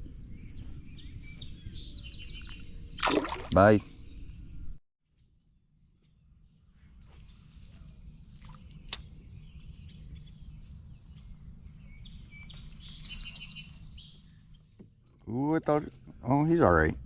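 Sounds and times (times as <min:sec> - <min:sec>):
high insect chorus: 0:00.0 - 0:17.0.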